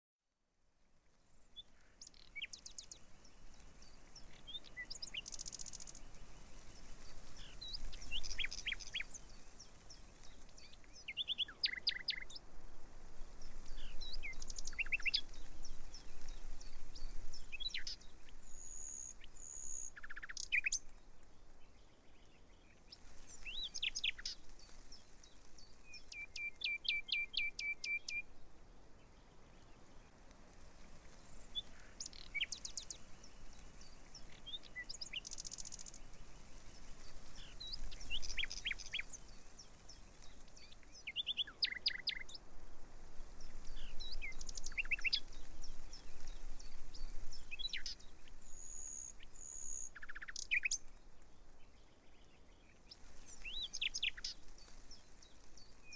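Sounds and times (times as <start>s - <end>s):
faint background hiss: 0.3s - 55.9s
songbirds chirping: 0.6s - 55.9s.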